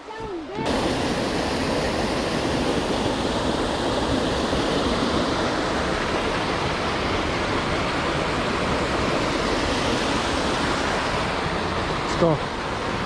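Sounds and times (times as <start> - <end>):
fast-flowing water: 0.0 - 13.0.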